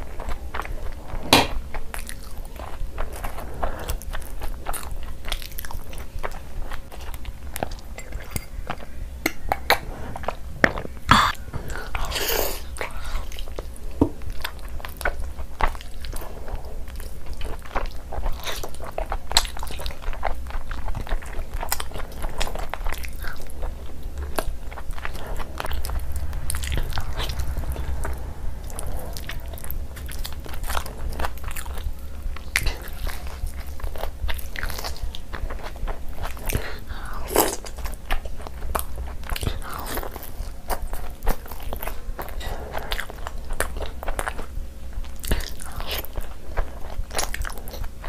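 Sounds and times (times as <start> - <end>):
wet chewing and lip-smacking: 0.0 - 48.0.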